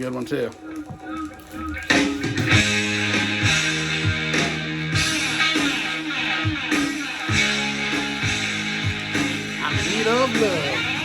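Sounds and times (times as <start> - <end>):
hard rock song from vinyl record: 0.0 - 11.0.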